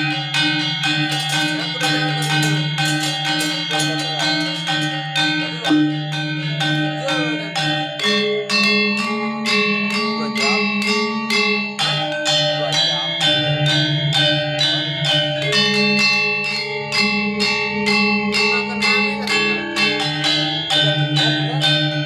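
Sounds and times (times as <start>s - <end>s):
metallophones struck in fast pulse: 0.0s - 22.0s
sustained low bronze tones: 0.0s - 22.0s.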